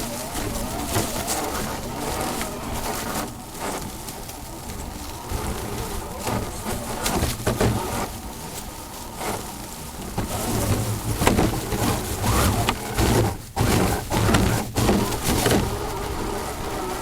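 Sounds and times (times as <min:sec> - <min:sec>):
crackling: 0:00.0 - 0:17.0
rc truck electric motor running: 0:00.0 - 0:17.0.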